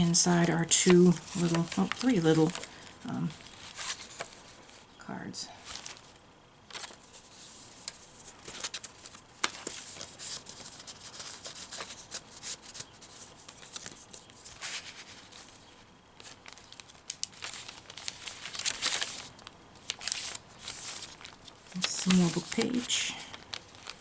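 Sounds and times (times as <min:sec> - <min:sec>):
paper crackles and taps: 0:00.0 - 0:04.7, 0:05.7 - 0:15.6, 0:16.2 - 0:24.0
paper rustling and crinkling: 0:00.0 - 0:04.9, 0:05.6 - 0:24.0.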